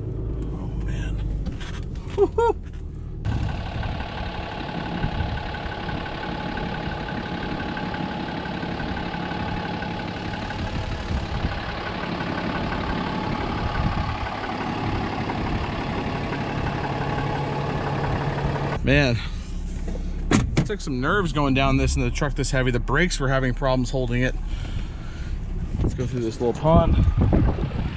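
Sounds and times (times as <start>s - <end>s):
diesel truck engine at low revs: 0.0s - 27.9s.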